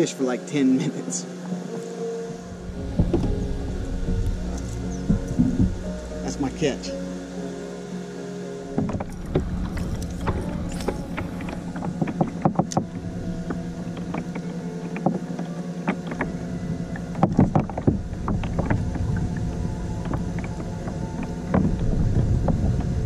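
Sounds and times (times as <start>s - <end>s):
steady low hum: 0.0s - 23.0s
water sounds: 2.2s - 23.0s.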